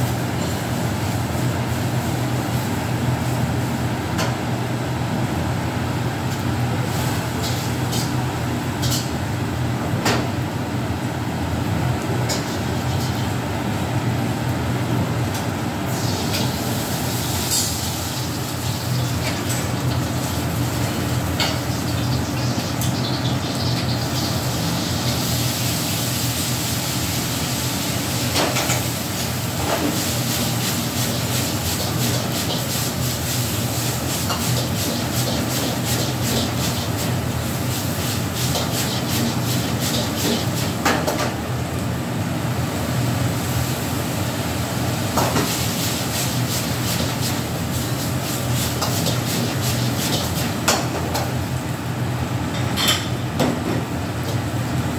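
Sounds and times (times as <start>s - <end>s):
food stir-frying in wok: 0.0s - 54.9s
gas burner roaring: 0.0s - 54.9s.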